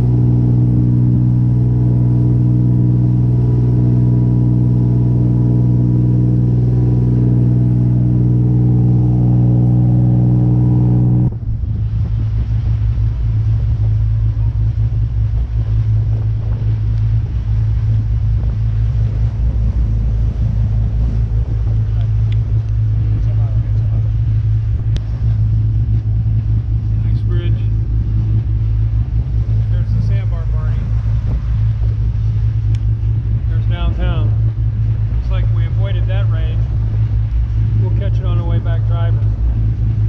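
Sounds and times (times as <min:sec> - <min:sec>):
boat engines running: 0:00.0 - 0:40.0
water rushing past hull: 0:00.0 - 0:40.0.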